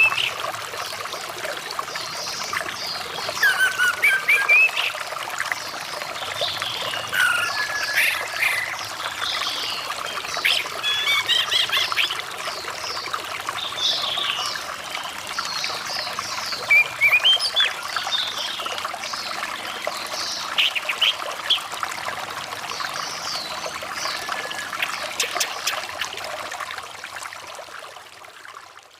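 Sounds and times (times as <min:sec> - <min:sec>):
water trickling: 0:00.0 - 0:28.9.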